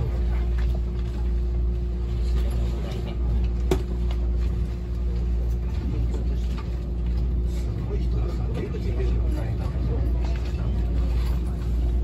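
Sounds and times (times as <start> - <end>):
train cabin rumble and hum: 0.0 - 12.0.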